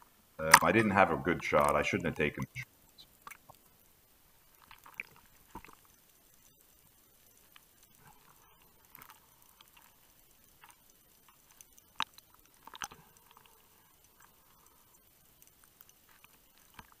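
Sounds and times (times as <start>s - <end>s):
underwater clicking and crackling: 0.0s - 17.0s.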